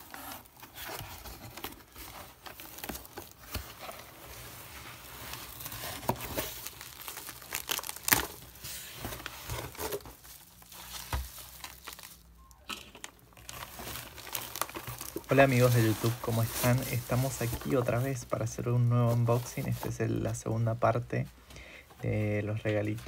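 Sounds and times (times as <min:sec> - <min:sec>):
cardboard rustling: 0:00.0 - 0:20.4
bubble wrap crinkling: 0:00.0 - 0:21.3.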